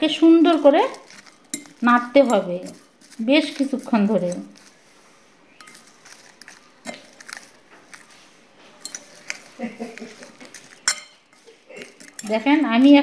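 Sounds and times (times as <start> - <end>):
spoon scraping a plate: 0.3 - 4.8, 5.5 - 13.0.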